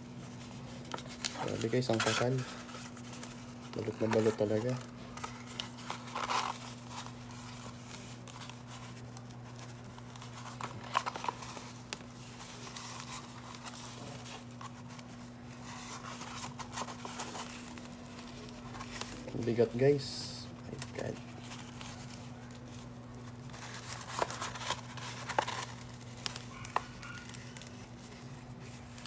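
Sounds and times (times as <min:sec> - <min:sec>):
paper crinkling and rustling: 0:00.0 - 0:29.0.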